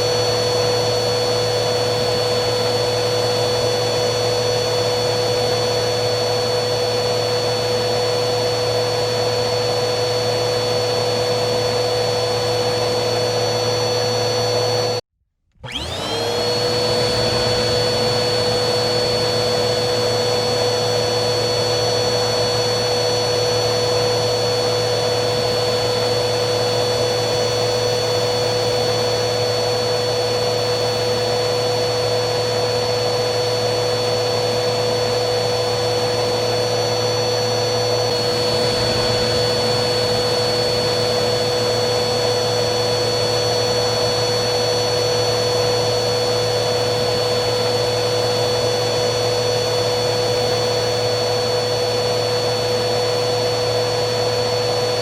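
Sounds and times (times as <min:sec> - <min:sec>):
vacuum cleaner motor whining: 0:00.0 - 0:55.0.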